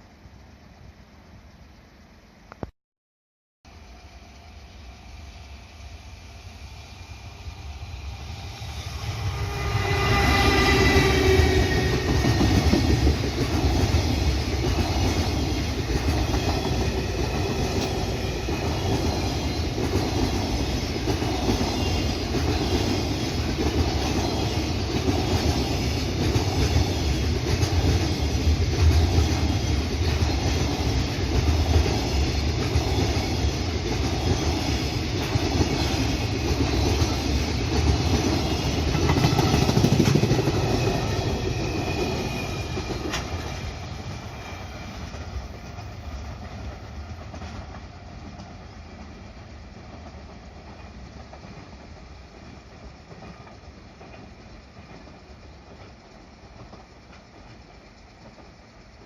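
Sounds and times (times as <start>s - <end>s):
freight train wheels clattering: 8.6s - 59.0s.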